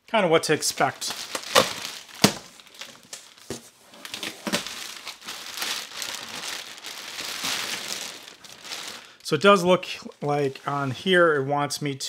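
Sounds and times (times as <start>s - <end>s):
plastic bag crinkling: 0.8s - 10.8s.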